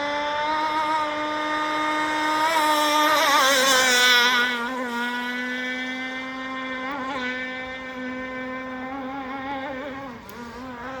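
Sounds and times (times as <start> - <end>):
model boat engine whine: 0.0 - 11.0.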